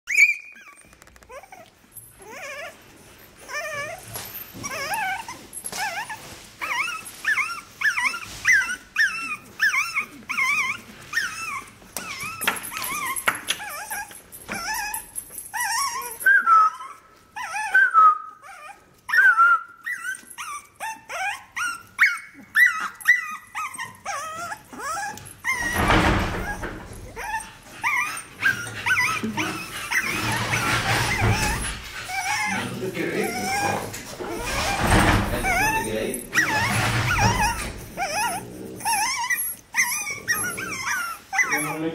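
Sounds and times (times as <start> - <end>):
puppies whining and yipping: 0.0 - 41.9.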